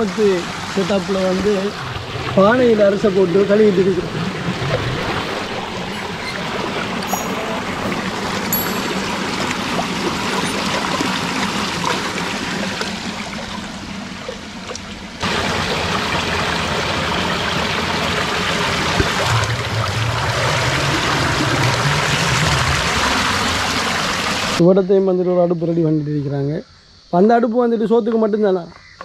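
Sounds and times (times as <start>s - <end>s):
flowing stream water: 0.0s - 24.6s.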